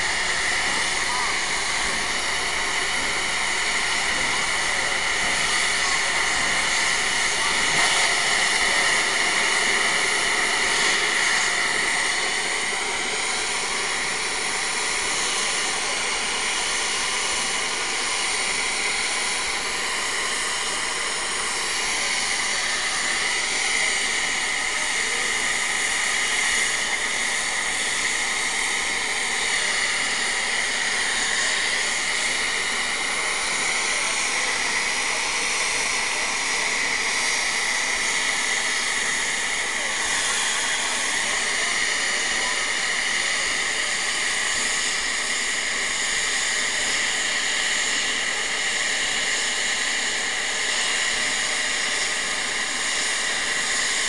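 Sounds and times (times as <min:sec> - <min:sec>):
steam venting hiss: 0:00.0 - 0:54.0.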